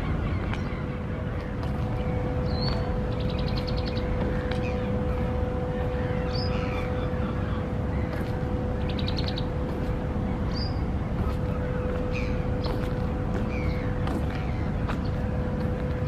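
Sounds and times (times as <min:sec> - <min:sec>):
birds calling: 0:00.0 - 0:16.0
constant hum: 0:00.0 - 0:16.0
steady low rumble: 0:00.0 - 0:16.0.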